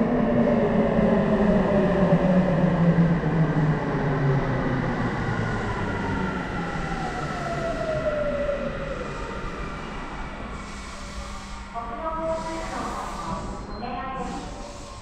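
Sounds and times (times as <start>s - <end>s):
low train rumble: 0.0s - 15.0s.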